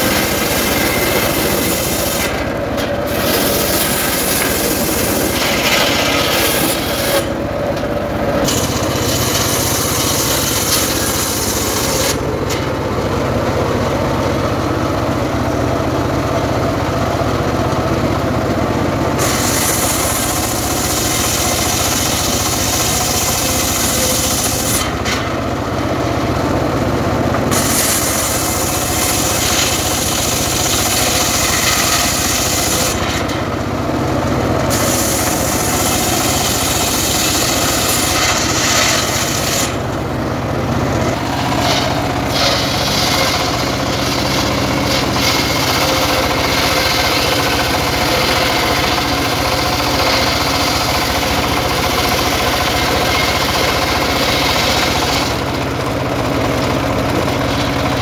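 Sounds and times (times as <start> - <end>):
circular saw blade cutting wood: 0.0 - 14.2, 19.1 - 25.6, 27.4 - 33.7, 34.5 - 58.0
engine running: 0.0 - 58.0.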